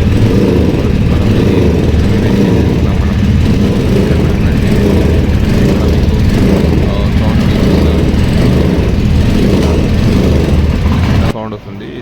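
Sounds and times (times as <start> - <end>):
motorcycle engine misfiring: 0.0 - 11.4.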